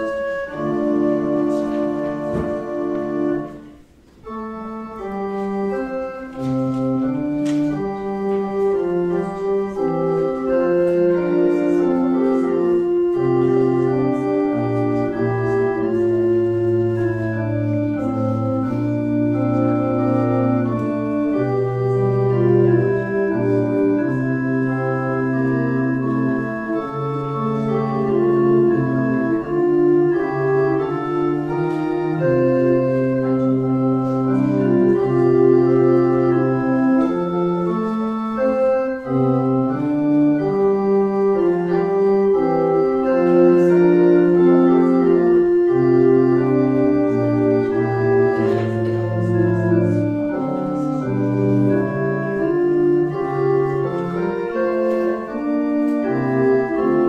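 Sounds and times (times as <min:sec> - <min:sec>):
organ playing slow chords: 0:00.0 - 0:57.0.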